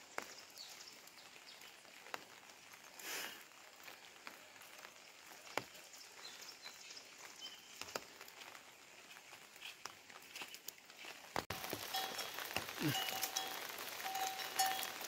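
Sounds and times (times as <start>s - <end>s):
light rain hiss: 0.0s - 15.0s
raindrops ticking: 0.0s - 15.0s.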